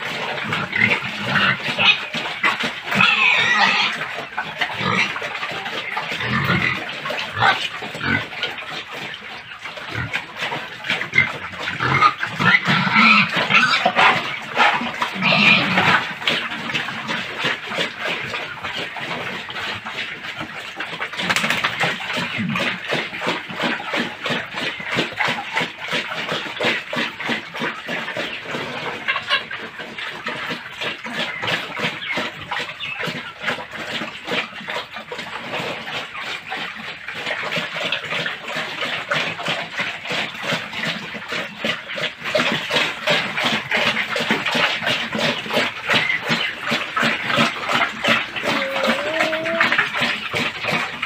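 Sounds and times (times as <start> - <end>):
pigs chomping and smacking: 0.0 - 51.0.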